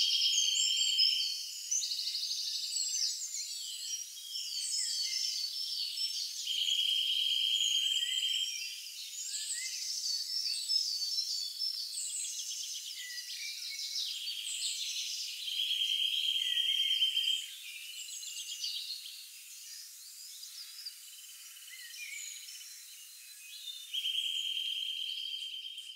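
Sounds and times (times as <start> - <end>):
songbirds chirping and warbling: 0.0 - 25.9.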